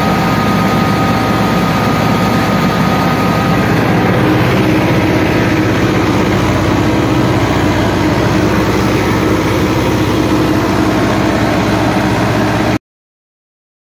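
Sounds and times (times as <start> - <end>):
tractor engine running: 0.0 - 12.8.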